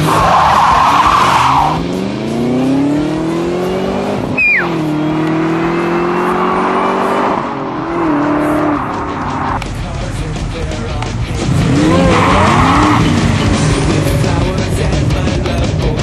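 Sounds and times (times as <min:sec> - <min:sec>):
car engines accelerating hard: 0:00.0 - 0:16.0.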